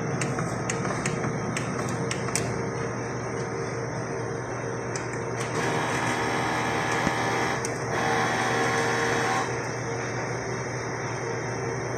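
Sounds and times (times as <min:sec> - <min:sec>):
printer machine hum: 0:00.0 - 0:11.9.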